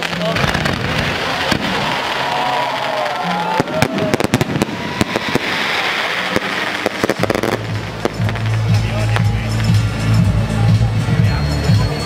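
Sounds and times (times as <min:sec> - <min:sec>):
whistling fireworks: 0:00.0 - 0:09.9
fireworks bangs and crackling: 0:00.0 - 0:12.0.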